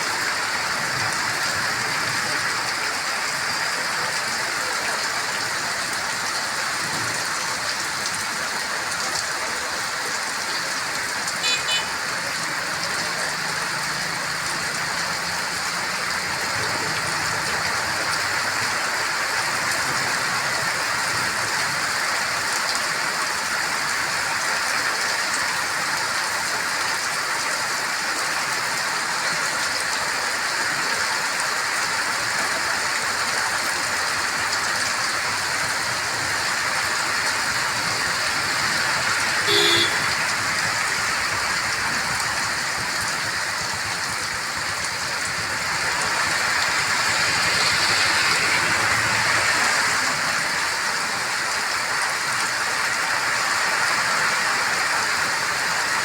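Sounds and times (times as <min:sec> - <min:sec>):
heavy rain drumming: 0:00.1 - 0:56.0.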